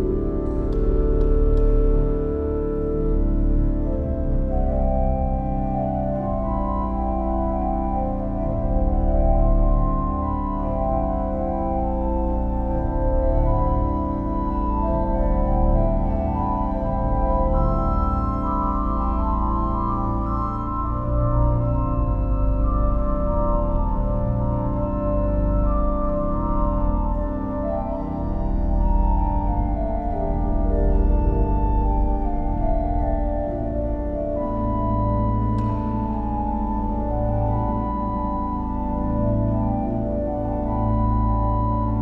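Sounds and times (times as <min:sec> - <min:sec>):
church organ chords: 0:00.0 - 0:42.0.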